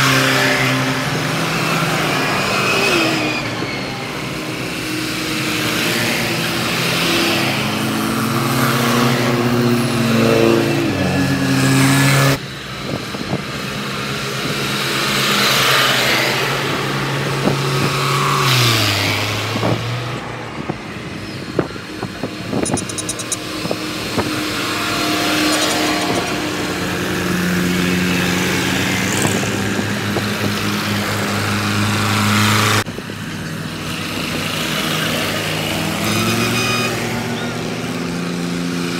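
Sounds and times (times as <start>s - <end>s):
tractor engines driving past: 0.0s - 38.9s.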